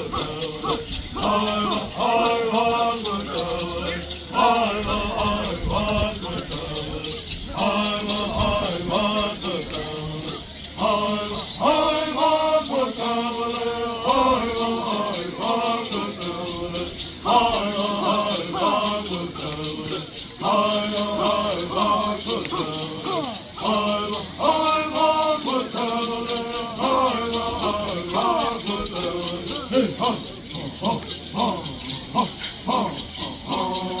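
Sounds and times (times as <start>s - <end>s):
gourd rattles shaking: 0.0s - 34.0s
people chanting in unison: 0.0s - 34.0s.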